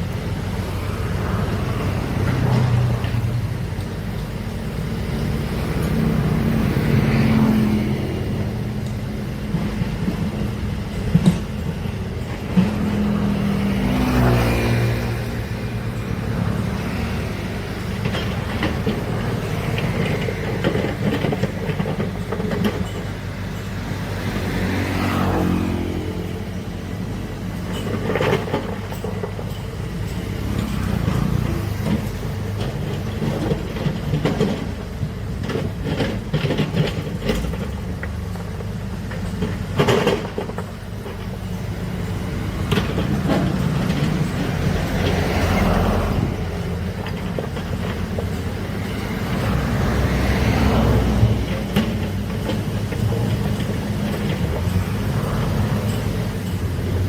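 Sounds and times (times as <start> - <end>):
diesel earthmoving machine running: 0.0 - 57.0.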